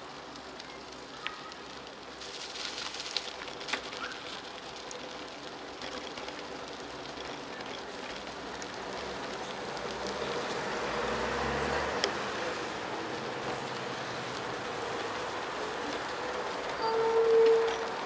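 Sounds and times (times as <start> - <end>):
traffic on wet roads: 0.0 - 18.0.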